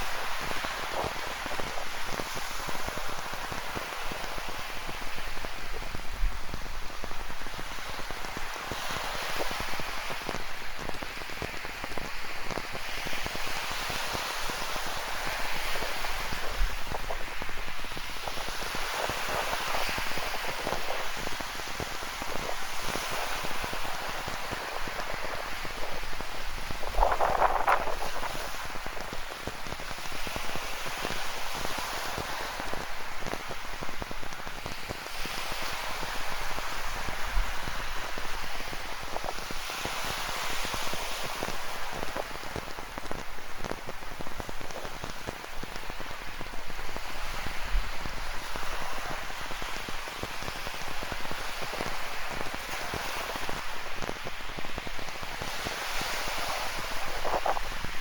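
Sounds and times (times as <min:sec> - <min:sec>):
ocean surf: 0:00.0 - 0:58.0.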